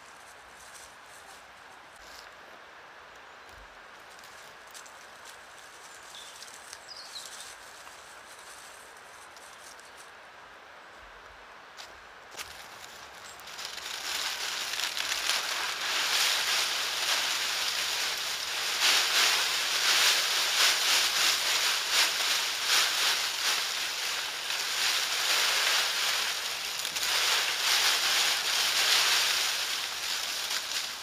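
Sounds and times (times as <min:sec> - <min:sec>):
dry leaves rustling and crunching: 0:00.0 - 0:02.3, 0:04.0 - 0:10.1, 0:12.3 - 0:31.0.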